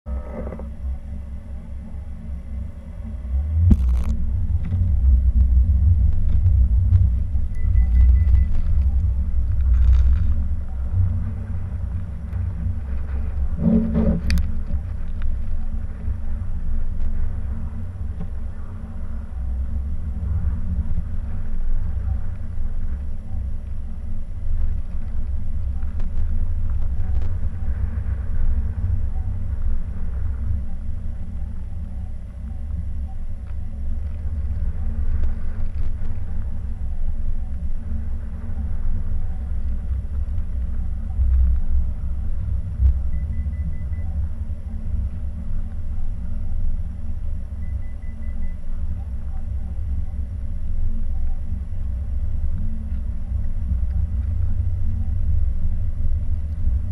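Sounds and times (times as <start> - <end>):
car driving on snowy road: 0.1 - 51.1.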